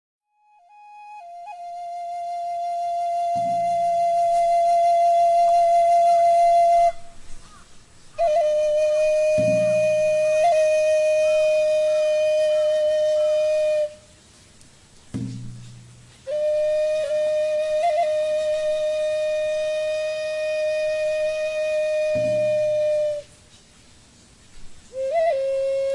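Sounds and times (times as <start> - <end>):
flute playing held notes: 0.3 - 7.4, 8.2 - 14.1, 16.2 - 23.4, 24.9 - 25.9.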